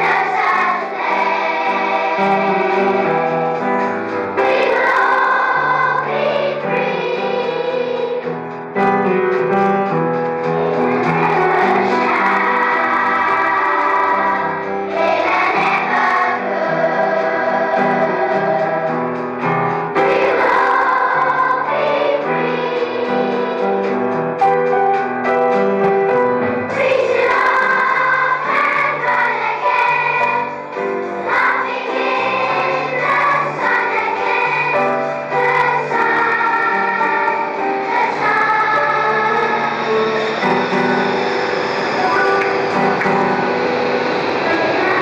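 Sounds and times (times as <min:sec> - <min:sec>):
children's choir singing: 0:00.0 - 0:24.8, 0:26.3 - 0:45.0
instrumental accompaniment: 0:00.0 - 0:45.0.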